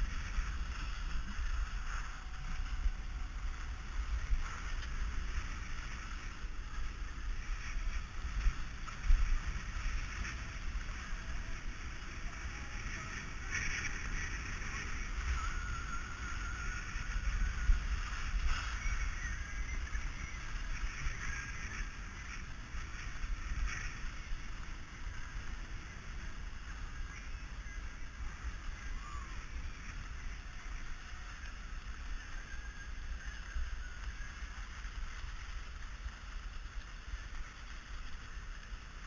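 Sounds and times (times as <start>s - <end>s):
ski edges scraping: 0.0s - 39.0s
skis hissing on snow: 0.0s - 39.0s
wind rumbling on microphone: 0.0s - 39.0s.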